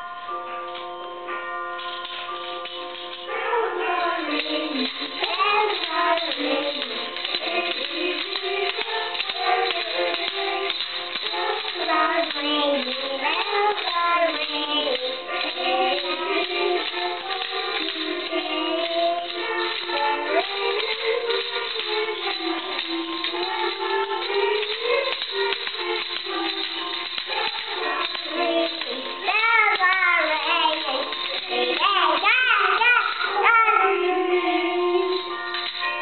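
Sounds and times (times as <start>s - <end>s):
toy tambourine jingling: 0.0s - 36.0s
children singing: 3.3s - 36.0s.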